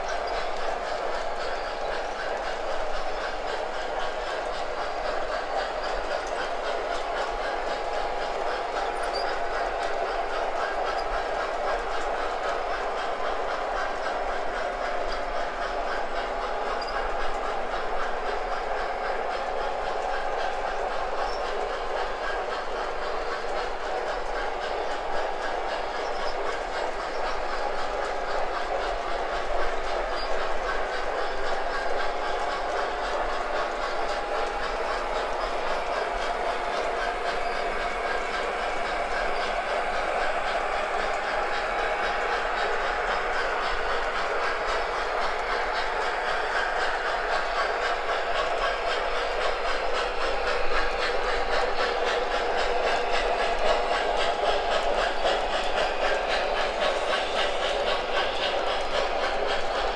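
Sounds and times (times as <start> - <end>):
model train rolling rumble: 0.0 - 59.9
wheels clicking over rails: 0.1 - 59.9.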